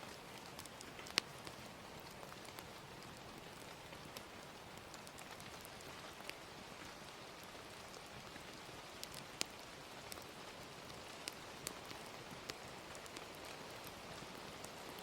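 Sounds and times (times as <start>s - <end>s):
gentle rain: 0.0s - 15.0s
wood fire crackles: 0.0s - 15.0s.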